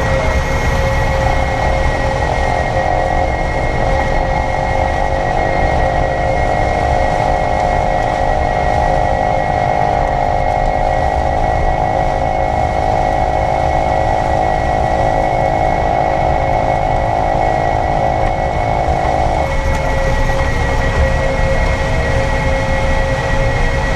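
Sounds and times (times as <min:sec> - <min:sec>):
electric car drivetrain whir: 0:00.0 - 0:23.9
low road rumble: 0:00.0 - 0:23.9.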